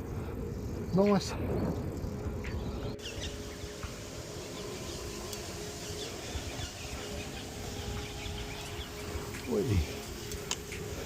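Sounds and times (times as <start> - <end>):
bike rolling noise: 0.0 - 11.0
birds chirping: 0.0 - 11.0
faint steady hum: 0.0 - 11.0
wind noise: 0.0 - 11.0.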